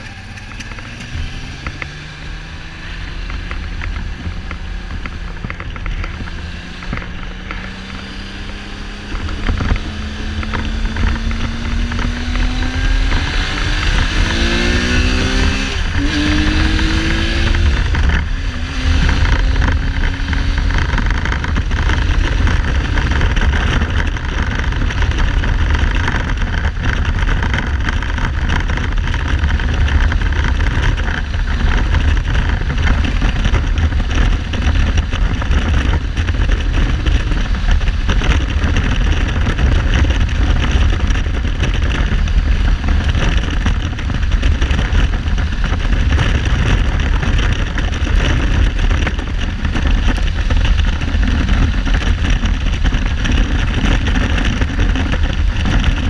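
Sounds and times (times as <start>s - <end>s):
heavy wind noise on microphone: 0.0s - 56.0s
misfiring motorcycle engine: 0.0s - 56.0s.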